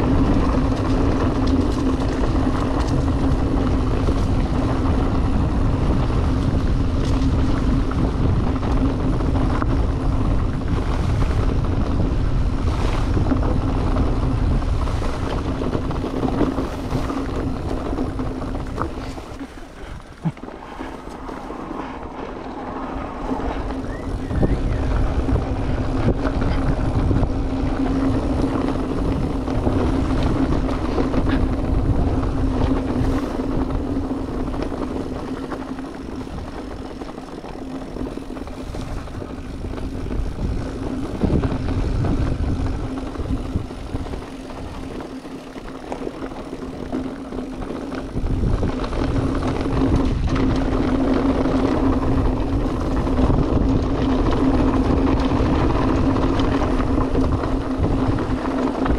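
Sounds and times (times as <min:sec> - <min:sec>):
electric bike motor hum: 0:00.0 - 0:58.9
wind on microphone: 0:00.0 - 0:58.9.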